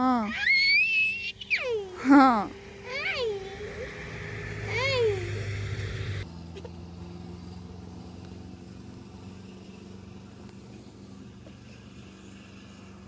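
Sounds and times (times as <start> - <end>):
small motor humming: 0.2 - 13.0.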